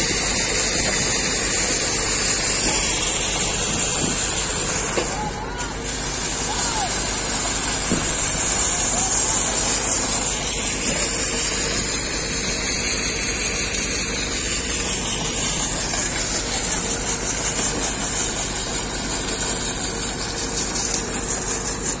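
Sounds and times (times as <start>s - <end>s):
paving machine drone: 0.0s - 22.0s.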